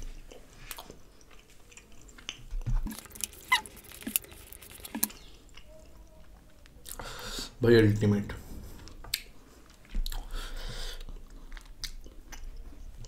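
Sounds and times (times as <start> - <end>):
quiet chewing and mouth smacks: 0.0 - 7.4, 8.8 - 13.0.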